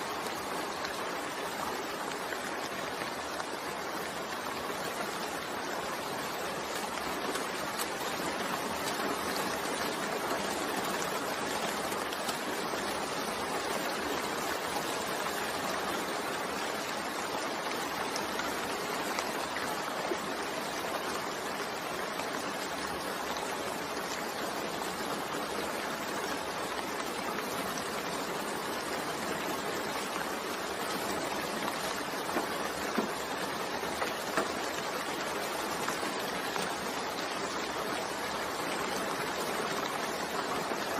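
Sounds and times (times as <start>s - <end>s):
steady rain falling: 0.0s - 40.9s
water drip ticks: 0.0s - 40.9s.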